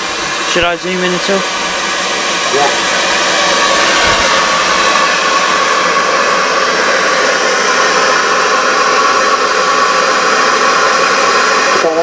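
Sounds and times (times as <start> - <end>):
furnace air blast rushing: 0.0 - 12.0.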